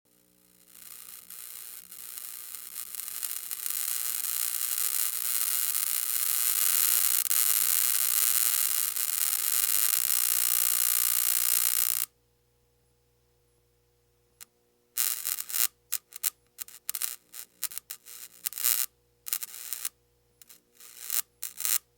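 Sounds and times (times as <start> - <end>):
electrical arcing crackle: 0.1 - 12.1, 15.0 - 21.9
sharp electrical pops: 0.1 - 12.1, 15.0 - 21.9.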